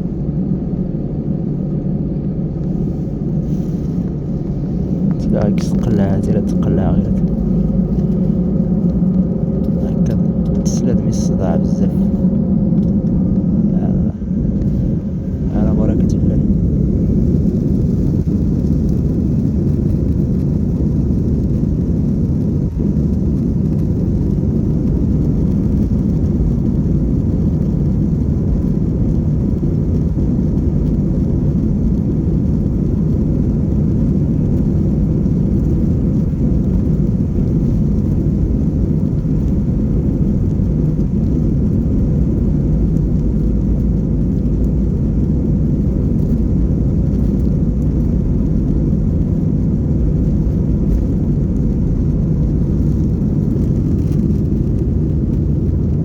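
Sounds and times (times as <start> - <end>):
airliner engines rumbling: 0.0 - 56.0.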